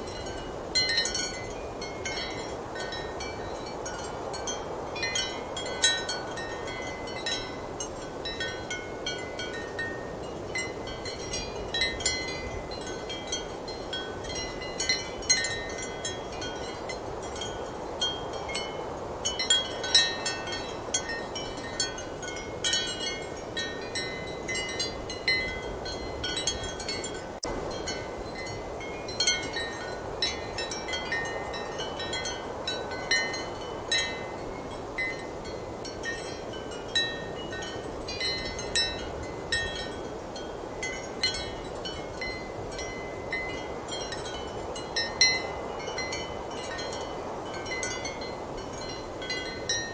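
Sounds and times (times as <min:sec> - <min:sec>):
ceramic wind chimes clinking: 0:00.0 - 0:49.9.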